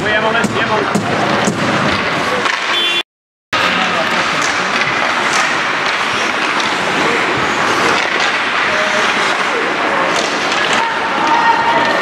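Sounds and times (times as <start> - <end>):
hockey sticks and puck clicking: 0.2 - 2.8, 3.6 - 12.0.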